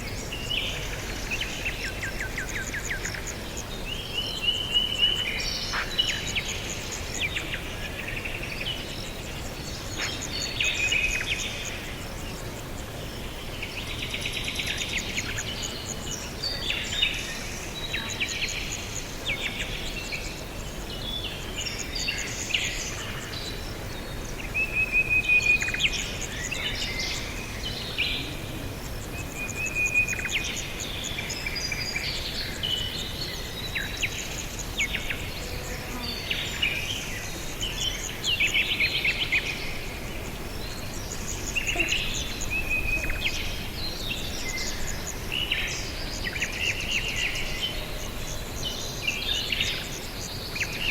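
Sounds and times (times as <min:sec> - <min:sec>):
steady background hiss: 0:00.0 - 0:50.9.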